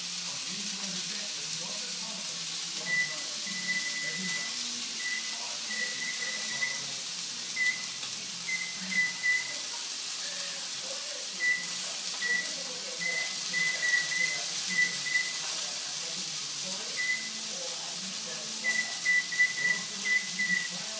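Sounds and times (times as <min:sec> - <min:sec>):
steady hiss: 0:00.0 - 0:20.9.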